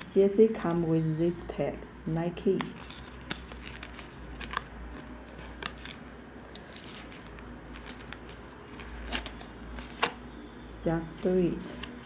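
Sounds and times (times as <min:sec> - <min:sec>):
fabric and paper tag rustling: 0:00.0 - 0:10.2.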